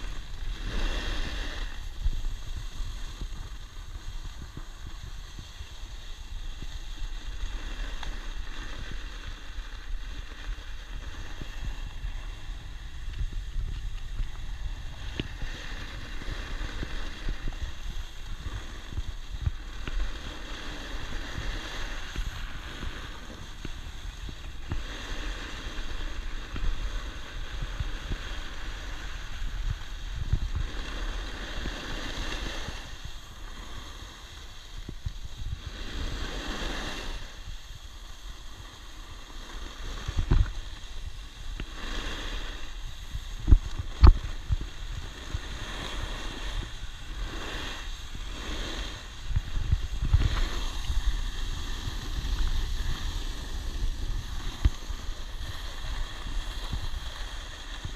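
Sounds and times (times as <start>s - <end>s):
skis scraping on snow: 0.0s - 57.9s
wind buffeting microphone: 0.0s - 57.9s.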